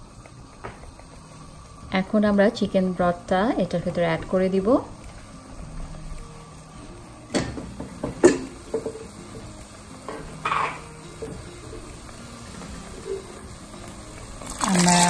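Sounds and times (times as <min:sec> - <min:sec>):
water simmering in a pot: 0:00.0 - 0:15.0.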